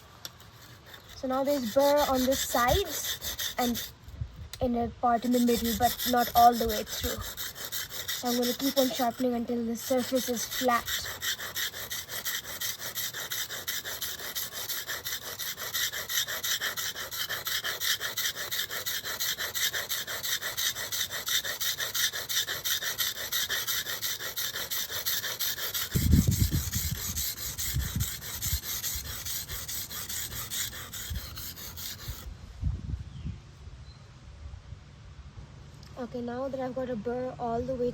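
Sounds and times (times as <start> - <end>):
blade scraping on sharpening stone: 0.3 - 4.0, 5.2 - 32.3.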